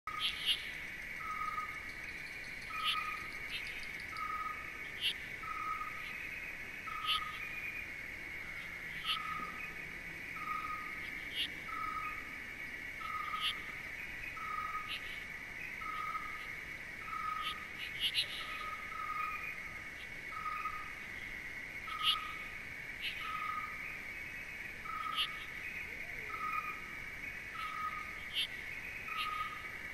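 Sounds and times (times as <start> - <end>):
high insect drone: 0.1 - 29.9.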